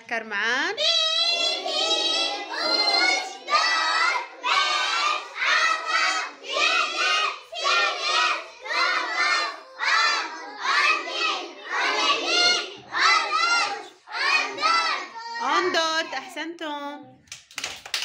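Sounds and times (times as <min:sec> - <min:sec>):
children chanting in unison: 0:01.2 - 0:16.2.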